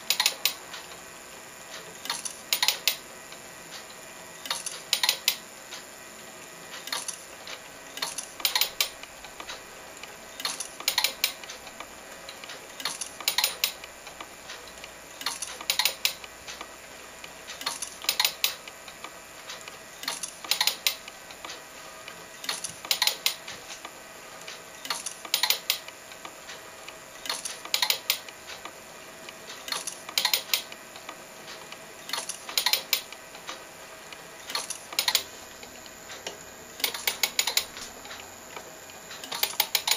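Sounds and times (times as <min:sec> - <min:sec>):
mechanical clicks: 0:00.0 - 0:01.0, 0:01.7 - 0:03.0, 0:03.7 - 0:05.9, 0:06.7 - 0:39.9.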